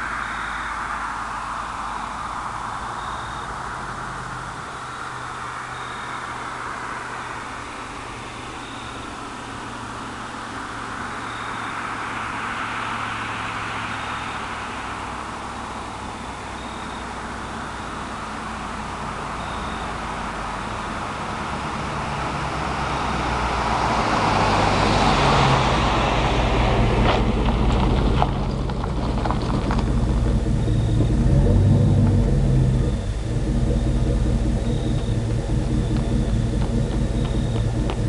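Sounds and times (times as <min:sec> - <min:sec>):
road and engine noise: 0:00.0 - 0:38.0.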